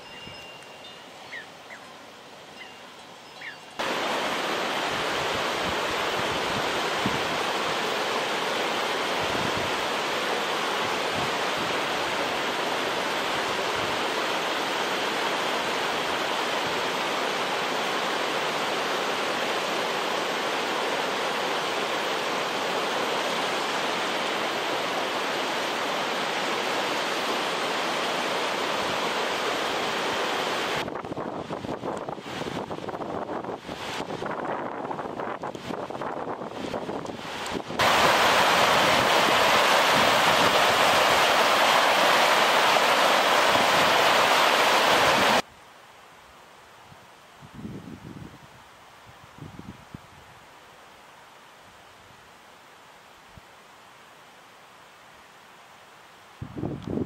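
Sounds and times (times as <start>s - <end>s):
stream rushing over rocks: 0.0s - 45.8s.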